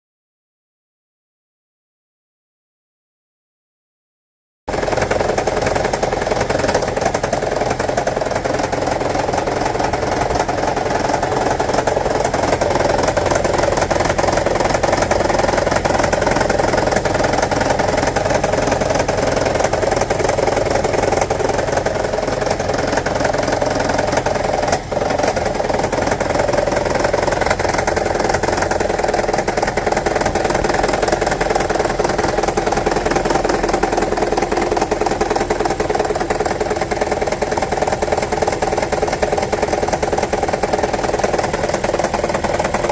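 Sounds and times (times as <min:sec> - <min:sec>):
car engine running with rattle: 0:04.7 - 0:42.9.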